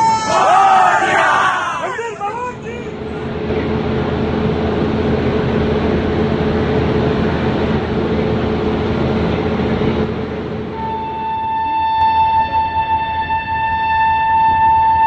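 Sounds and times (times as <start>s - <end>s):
steady hum: 0.0s - 15.0s
train rumbling past: 0.0s - 15.0s.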